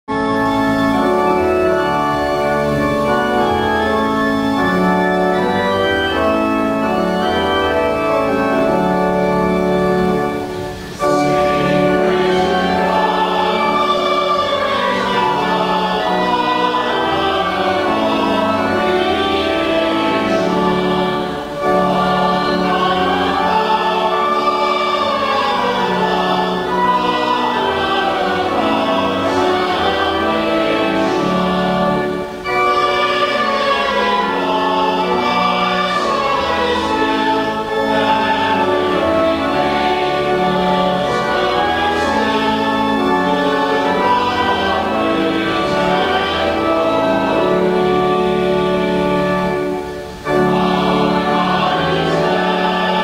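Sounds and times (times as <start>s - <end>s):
organ playing sustained chords: 0.1s - 53.0s.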